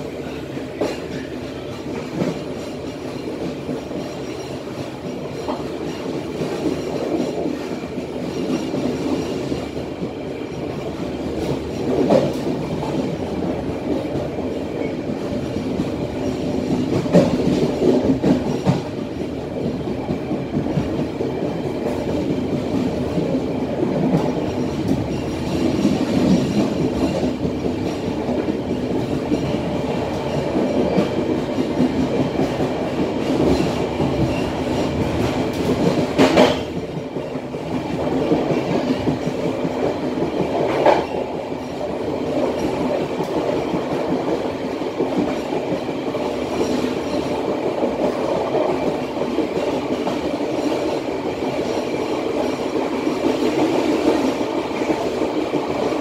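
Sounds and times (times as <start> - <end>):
train wheels clickety-clack: 0.0 - 56.0.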